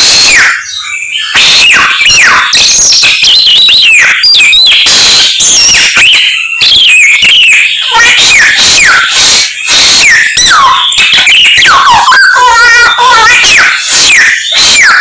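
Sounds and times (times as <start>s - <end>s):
bird singing whistled phrases: 0.0s - 15.0s.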